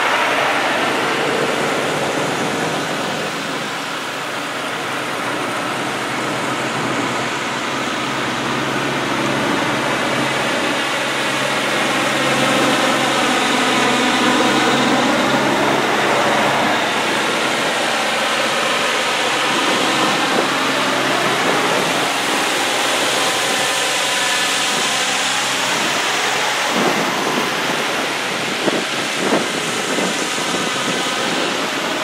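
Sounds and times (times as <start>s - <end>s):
diesel trucks driving past: 0.0s - 32.0s.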